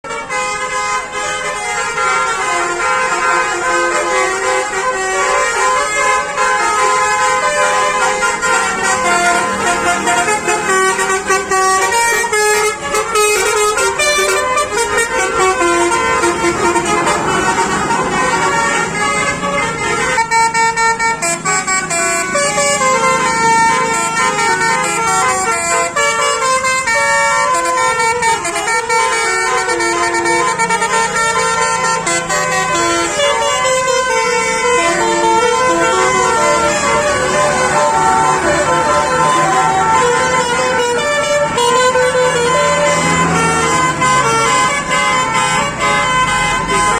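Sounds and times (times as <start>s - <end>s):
bus horn playing a tune: 0.0s - 46.9s.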